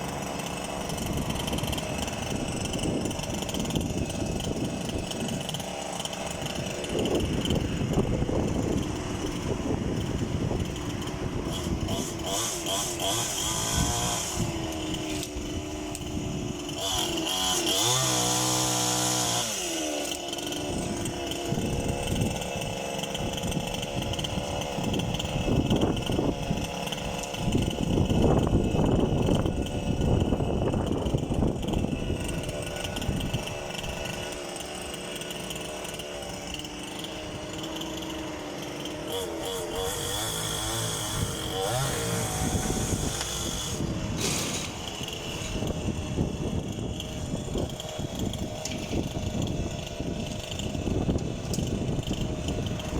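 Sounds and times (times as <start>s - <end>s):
chainsaw cutting wood: 0.0s - 52.9s
chainsaw revving: 0.0s - 52.9s.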